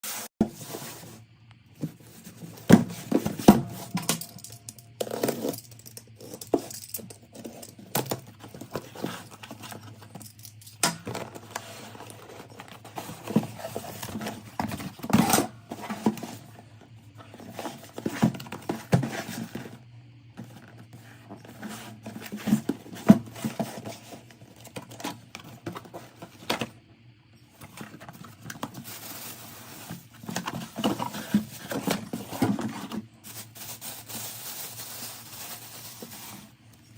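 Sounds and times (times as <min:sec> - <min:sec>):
cardboard and plastic packaging handled: 0:00.1 - 0:19.8, 0:20.4 - 0:26.8, 0:27.4 - 0:36.9.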